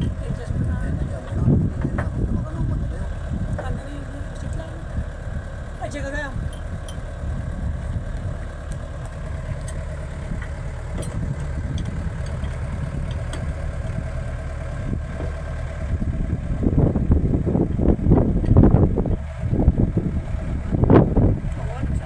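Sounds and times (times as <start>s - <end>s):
engine idling: 0.0s - 22.0s
wind buffeting microphone: 0.0s - 22.0s.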